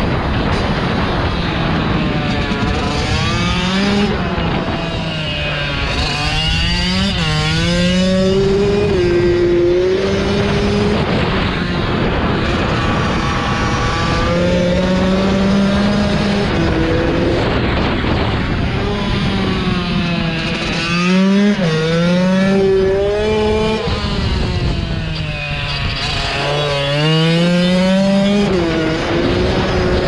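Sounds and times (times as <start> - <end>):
pit bike engine revving: 2.2 - 30.0.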